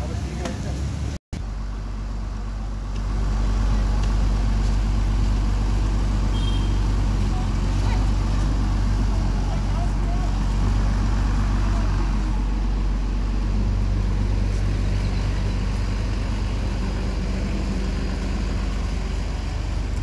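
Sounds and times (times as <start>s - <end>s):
heavy engine running: 0.0s - 20.0s.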